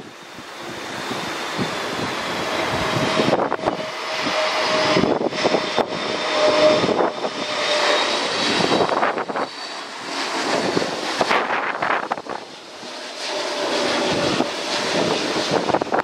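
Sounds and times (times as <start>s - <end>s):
jet engines whining: 0.0s - 16.0s
wind buffeting microphone: 0.0s - 16.0s.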